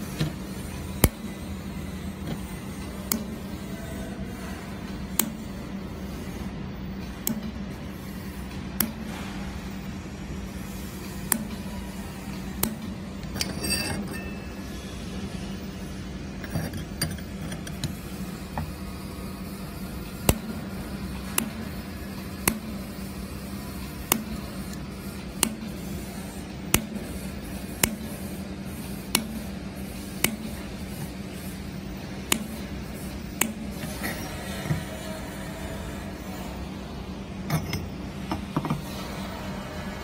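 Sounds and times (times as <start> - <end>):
laser welder humming: 0.0 - 39.8.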